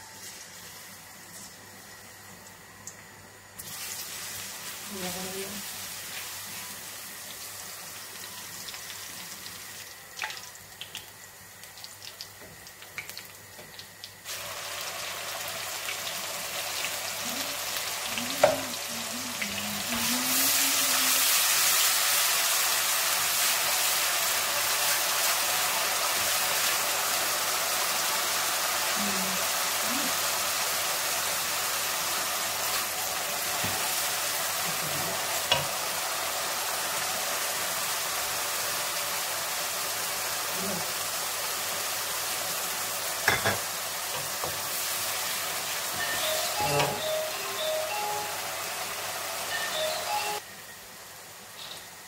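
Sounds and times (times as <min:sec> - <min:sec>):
food sizzling in oil: 0:03.6 - 0:52.0.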